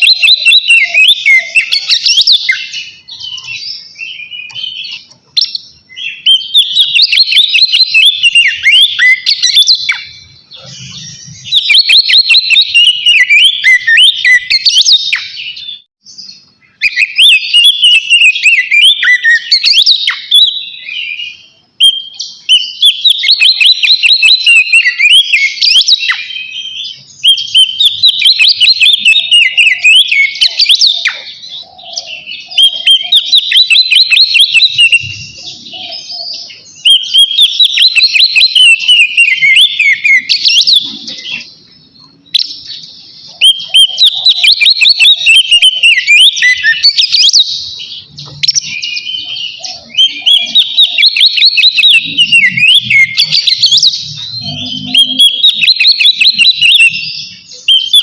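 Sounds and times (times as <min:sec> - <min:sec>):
bird singing whistled trills: 0:00.0 - 0:58.0.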